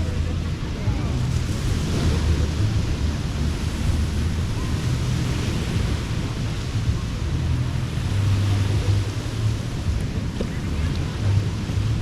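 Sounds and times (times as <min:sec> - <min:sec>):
ocean surf breaking on a beach: 0:00.0 - 0:12.0
wind buffeting the microphone: 0:00.0 - 0:12.0.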